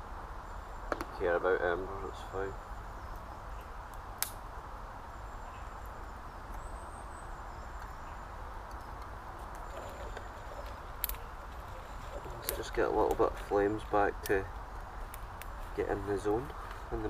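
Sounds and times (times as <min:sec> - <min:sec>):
campfire embers hissing: 0:00.0 - 0:17.0
sharp crack of fire: 0:02.1 - 0:06.7, 0:07.4 - 0:17.0.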